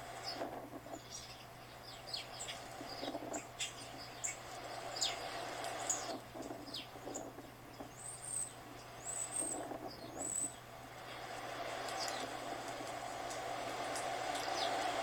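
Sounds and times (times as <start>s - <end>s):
high arching bird calls: 0.0s - 10.8s, 11.8s - 12.5s, 14.0s - 15.0s
small birds chirping: 0.0s - 15.0s.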